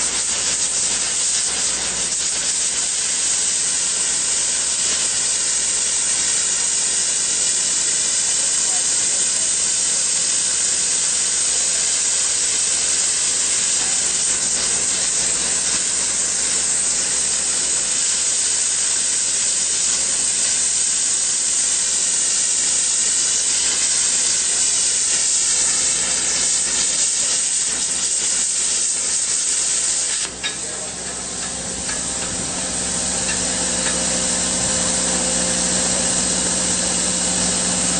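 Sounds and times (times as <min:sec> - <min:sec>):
plasma cutter hissing: 0:00.0 - 0:37.9.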